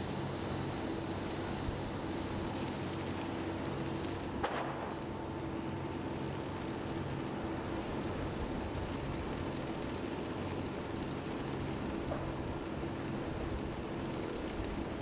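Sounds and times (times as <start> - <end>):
fire engine motors running: 0.0 - 15.0
rushing fire and hose streams: 0.0 - 15.0.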